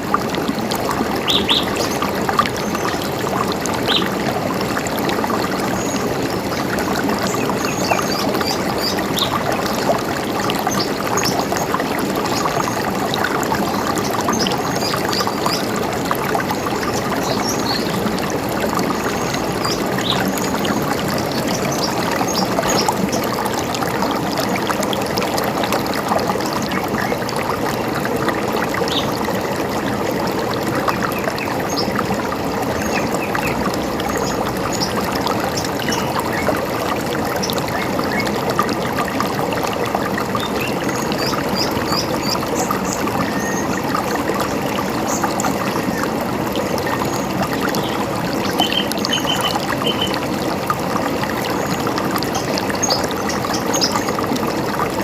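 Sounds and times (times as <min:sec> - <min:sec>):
river water running: 0:00.0 - 0:55.0.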